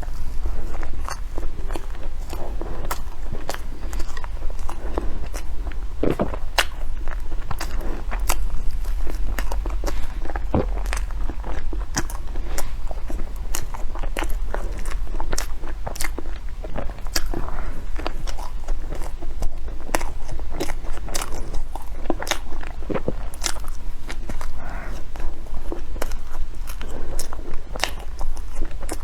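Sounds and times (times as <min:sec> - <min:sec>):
biting and chewing baked goods: 0:00.0 - 0:29.0.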